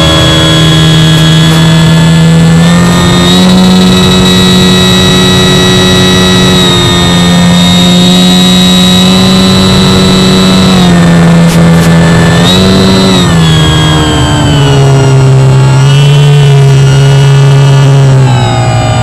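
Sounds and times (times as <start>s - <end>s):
electric motor and propeller whine: 0.0s - 19.0s.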